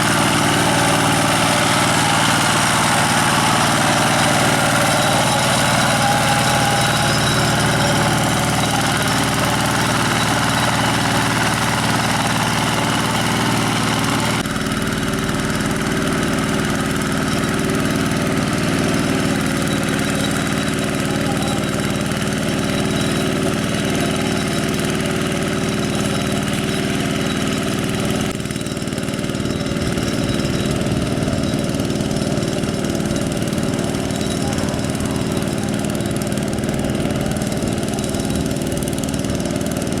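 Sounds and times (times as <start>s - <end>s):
diesel tractor engine running: 0.0s - 40.0s.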